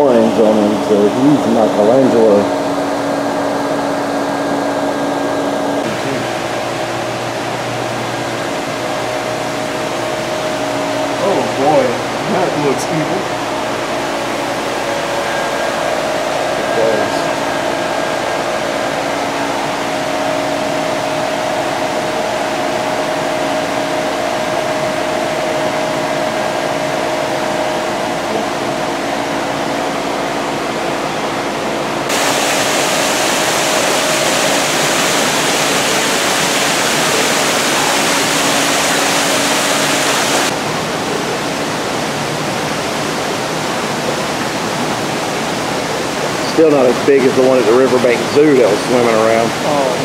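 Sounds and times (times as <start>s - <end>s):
hiss of circulating water pumps: 0.0s - 50.0s.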